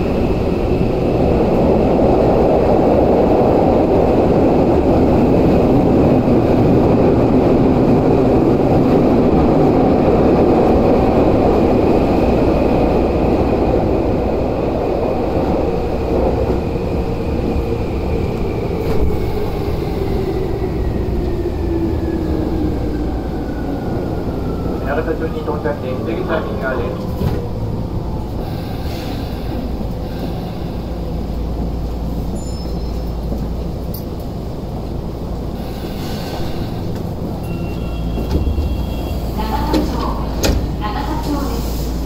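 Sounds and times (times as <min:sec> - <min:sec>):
train wheels rumbling in tunnel: 0:00.0 - 0:42.0.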